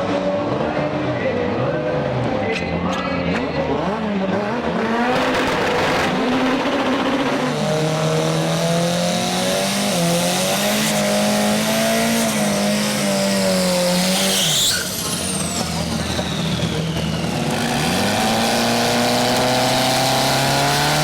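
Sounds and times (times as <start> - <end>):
engine at high revs: 3.3 - 21.0.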